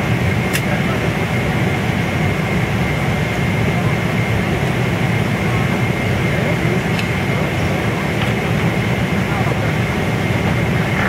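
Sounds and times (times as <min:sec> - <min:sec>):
airliner engines and rushing air: 0:00.0 - 0:11.0.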